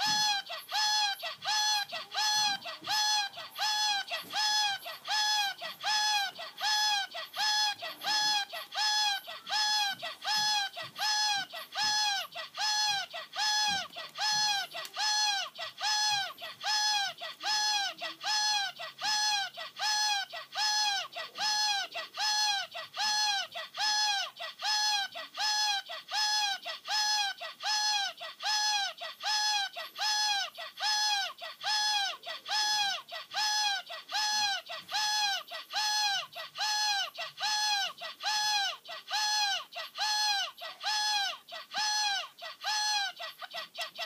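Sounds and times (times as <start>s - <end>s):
high-pitched electronic toy call: 0.0s - 44.0s.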